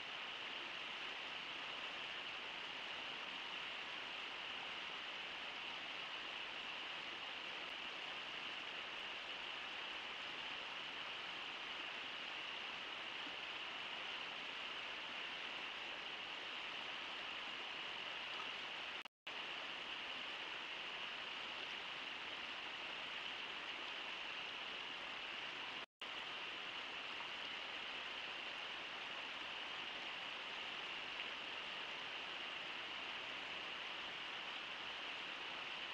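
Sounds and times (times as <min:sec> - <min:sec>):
river water rushing over rocks: 0:00.0 - 0:35.9.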